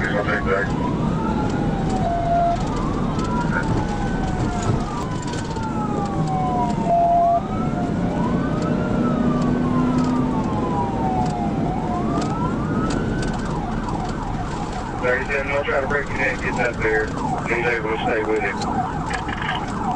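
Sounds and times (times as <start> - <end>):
car road and engine noise: 0.0 - 19.9
police siren wailing: 0.0 - 19.9.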